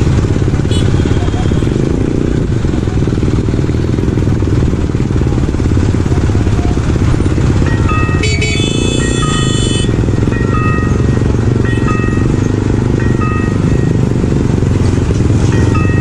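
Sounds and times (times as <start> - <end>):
motorcycle engines: 0.0 - 16.0.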